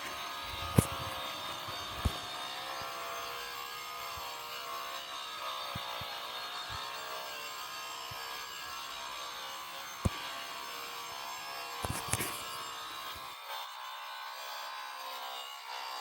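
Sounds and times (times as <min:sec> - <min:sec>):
angle grinder cutting wood: 0:00.0 - 0:13.3.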